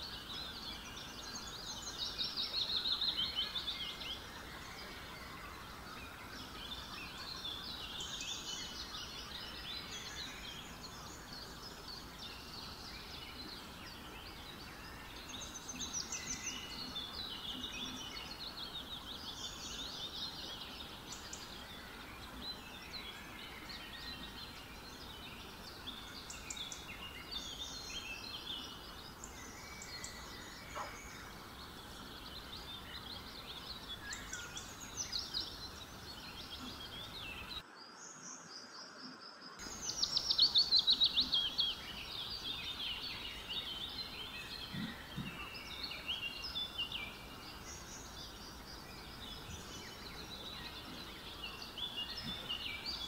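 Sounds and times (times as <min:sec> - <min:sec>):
faint steady hiss: 0:00.0 - 0:53.0
small birds chirping: 0:00.0 - 0:53.0.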